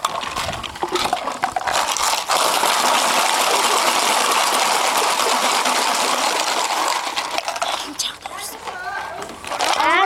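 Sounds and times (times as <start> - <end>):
bottle shakers rattling: 0.0 - 8.8, 9.4 - 10.0.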